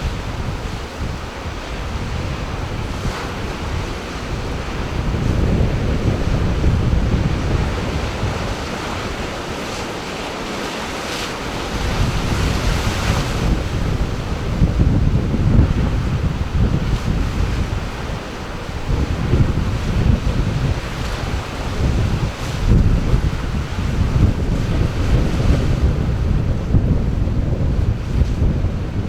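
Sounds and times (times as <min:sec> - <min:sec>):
sea surf washing: 0:00.0 - 0:29.0
wind buffeting microphone: 0:00.0 - 0:29.0.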